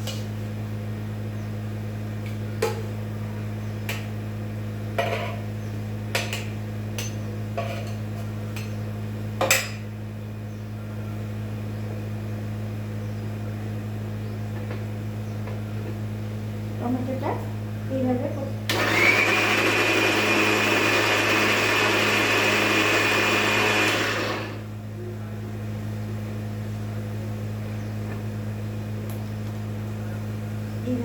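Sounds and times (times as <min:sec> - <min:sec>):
steady low hum: 0:00.0 - 0:18.7, 0:24.3 - 0:31.0.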